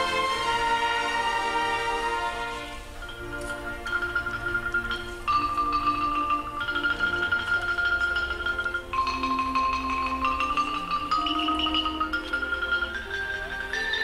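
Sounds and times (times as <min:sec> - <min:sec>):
marimbas playing repeated notes: 0:00.0 - 0:14.0.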